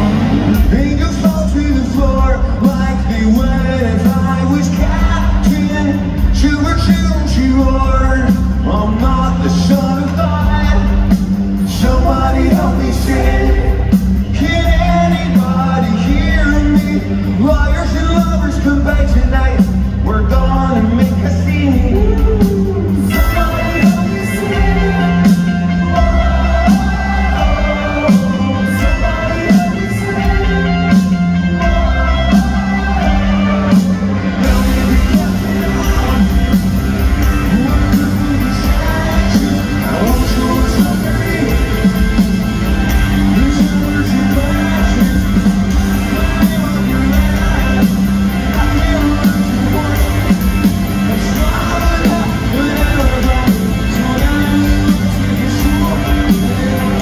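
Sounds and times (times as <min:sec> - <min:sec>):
lead singer singing: 0:00.0 - 0:57.0
live rock band playing: 0:00.0 - 0:57.0.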